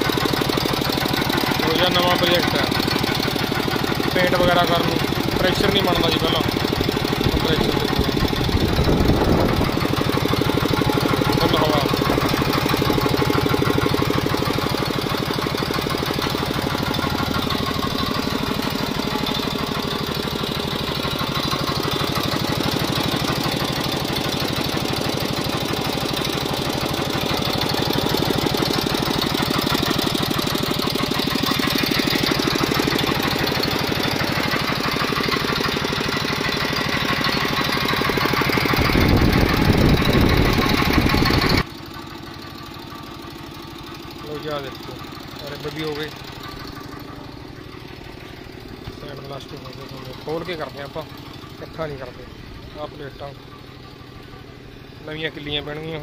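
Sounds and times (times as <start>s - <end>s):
air compressor knocking: 0.0s - 56.0s.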